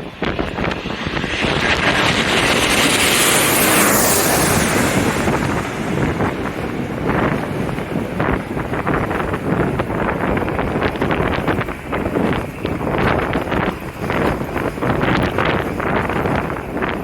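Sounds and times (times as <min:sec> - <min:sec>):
jet airliner passing overhead: 0:00.0 - 0:17.0
wind buffeting microphone: 0:00.0 - 0:17.0.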